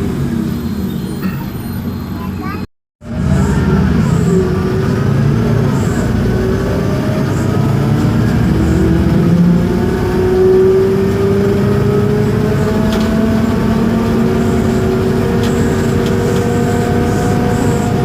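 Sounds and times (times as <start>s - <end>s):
bus diesel engine running: 0.0s - 18.0s
rising drivetrain whine: 0.0s - 18.0s.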